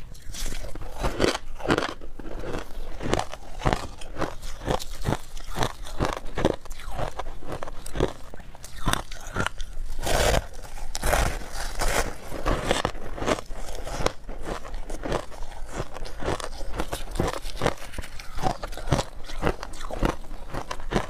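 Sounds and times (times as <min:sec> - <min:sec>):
shaved ice being chewed: 0:00.0 - 0:21.0.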